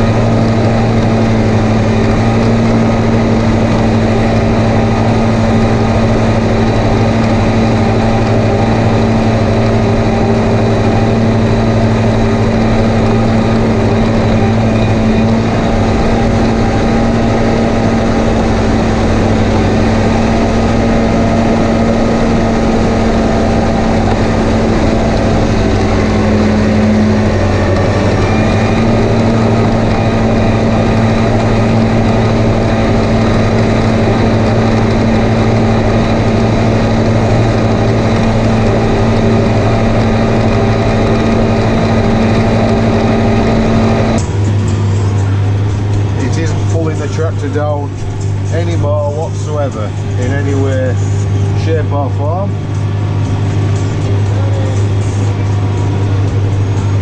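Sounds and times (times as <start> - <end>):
tractor engine running under load: 0.0 - 57.0.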